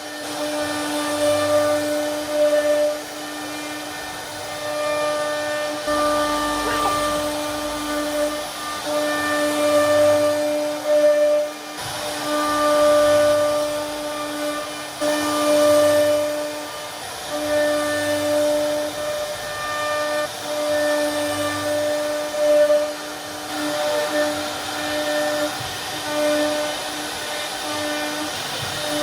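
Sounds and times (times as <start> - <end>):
bit cutting into wood: 0.0 - 29.0
router spindle whine: 0.0 - 29.0.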